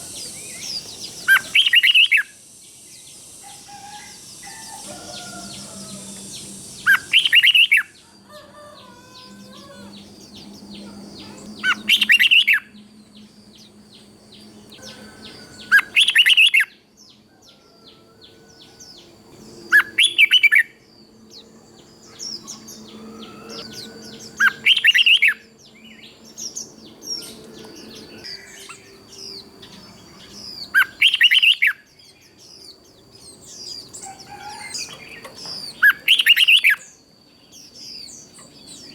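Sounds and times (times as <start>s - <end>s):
bird warbling song phrases: 0.0s - 17.2s, 17.9s - 38.9s
soft bird chirps: 0.0s - 38.9s.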